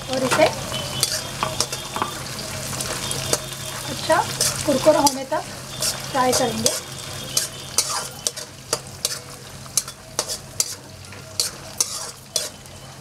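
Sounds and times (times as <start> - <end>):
food sizzling in oil: 0.0 - 13.0
spatula scraping a pan: 0.2 - 2.2, 2.9 - 12.7.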